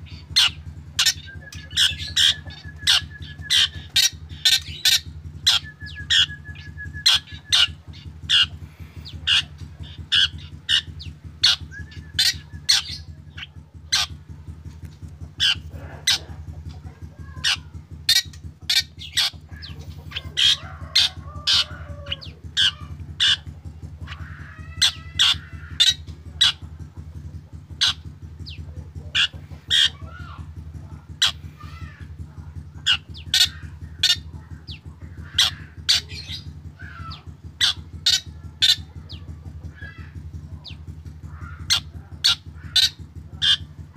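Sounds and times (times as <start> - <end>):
bird calling harsh notes: 0.0 - 43.9.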